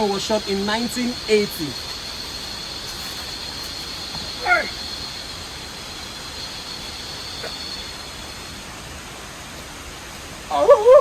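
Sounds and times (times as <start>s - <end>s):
faint high drone: 0.0s - 11.0s.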